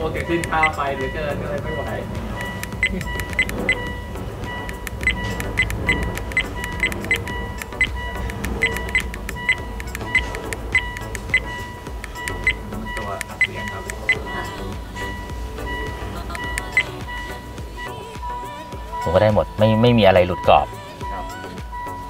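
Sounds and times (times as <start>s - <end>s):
low background sound: 0.0s - 22.0s
short electronic beeps: 0.2s - 22.0s.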